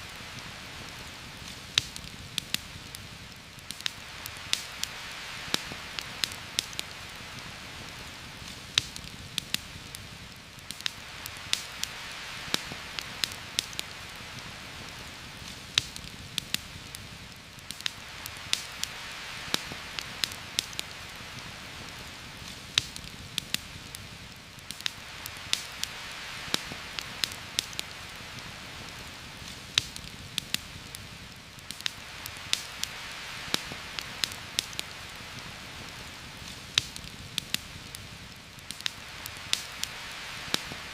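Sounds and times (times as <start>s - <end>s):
campfire crackles and pops: 0.0s - 40.9s
heavy rain on foliage: 0.0s - 40.9s.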